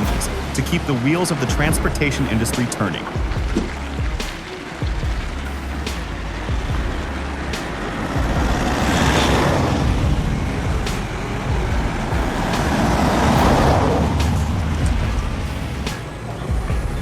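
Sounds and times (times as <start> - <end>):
heavy vehicles passing: 0.0 - 17.0.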